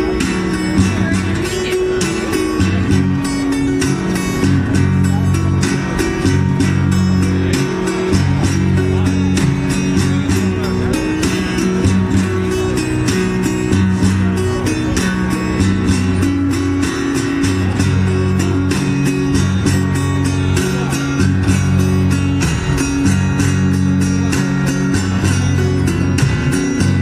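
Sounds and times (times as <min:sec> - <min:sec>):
blues band playing: 0:00.0 - 0:27.0
guitar: 0:00.0 - 0:27.0
steady drum beat: 0:00.0 - 0:27.0
walking bass line: 0:00.0 - 0:27.0.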